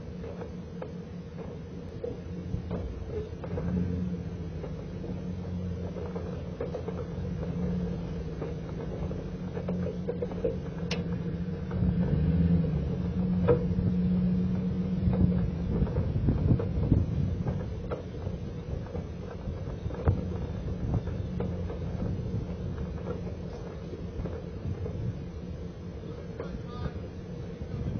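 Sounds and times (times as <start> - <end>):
truck engine low hum: 0.0 - 27.9.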